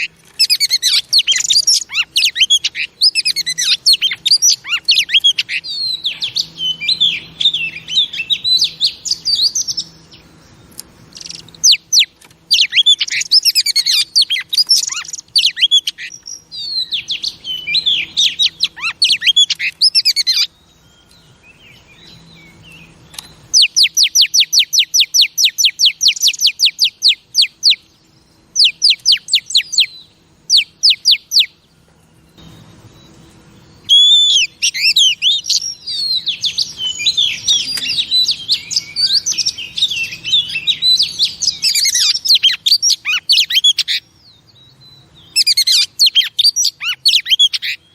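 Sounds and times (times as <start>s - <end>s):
bird singing whistled phrases: 0.0s - 10.4s, 11.2s - 31.6s, 32.4s - 47.9s
rapid repeated down-slurred bird notes: 0.0s - 47.9s.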